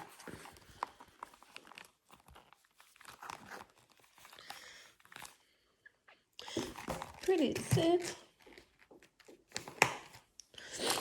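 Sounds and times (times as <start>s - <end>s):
packaging crinkling and rustling: 0.0s - 5.7s, 6.4s - 11.0s.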